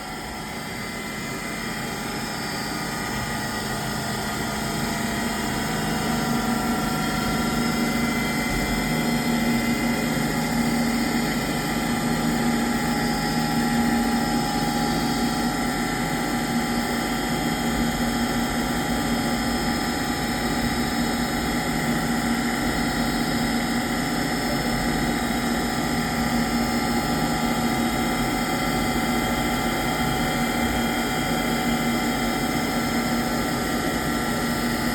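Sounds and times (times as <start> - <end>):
milling machine whine: 0.0 - 34.9.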